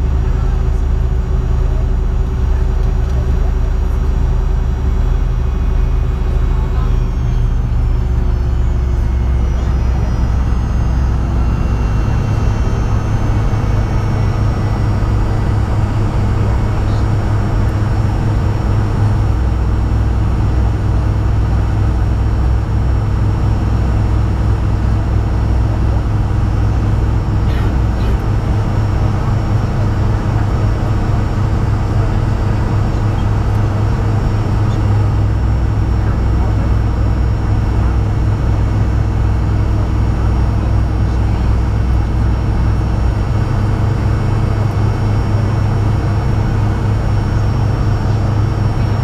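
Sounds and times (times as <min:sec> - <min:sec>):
faint high whine: 0:00.0 - 0:49.0
jet engines humming in cabin: 0:00.0 - 0:49.0.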